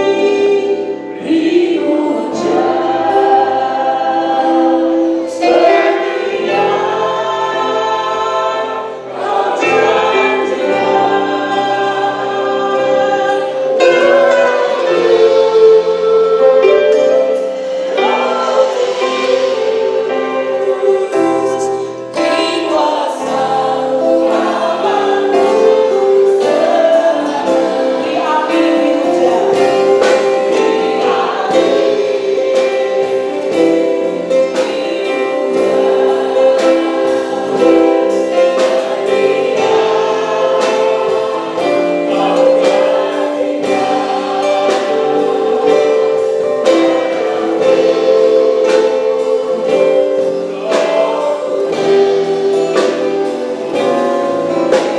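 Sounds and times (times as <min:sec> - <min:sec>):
live band playing: 0:00.0 - 0:54.9
voices singing worship song: 0:00.0 - 0:54.9.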